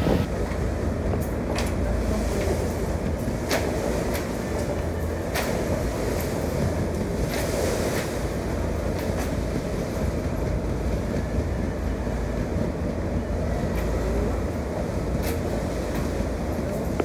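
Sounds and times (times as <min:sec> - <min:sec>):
boat engine low rumble: 0:00.0 - 0:17.0
choppy water: 0:00.0 - 0:17.0
wind buffeting microphone: 0:00.0 - 0:17.0.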